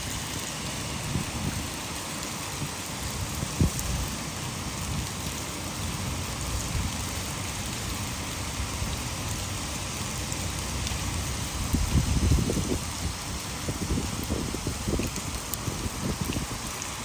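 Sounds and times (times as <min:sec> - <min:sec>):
heavy rain falling: 0:00.0 - 0:17.0
water pouring over a dam: 0:00.0 - 0:17.0.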